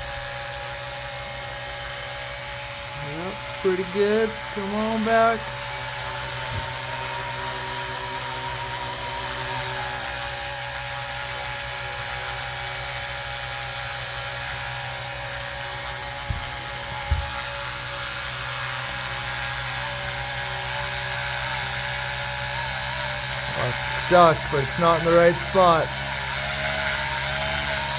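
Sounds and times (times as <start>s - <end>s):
model helicopter rotors whining: 0.0s - 27.9s.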